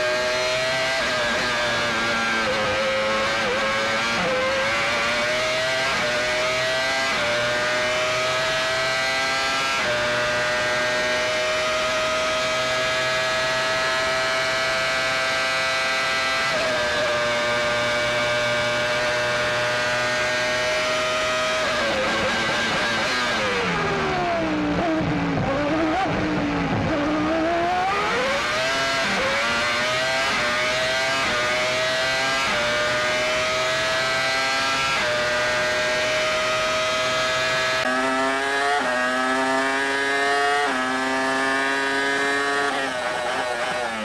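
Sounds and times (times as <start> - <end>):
racing car engine at high revs: 0.0 - 44.0.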